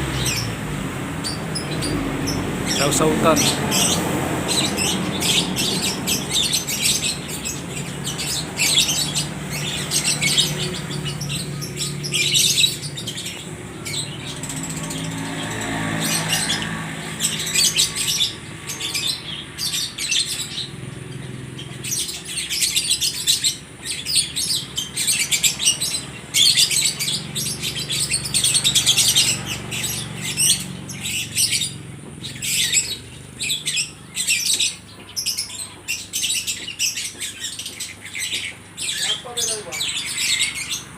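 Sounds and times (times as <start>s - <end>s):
birds chattering shrilly: 0.0s - 40.9s.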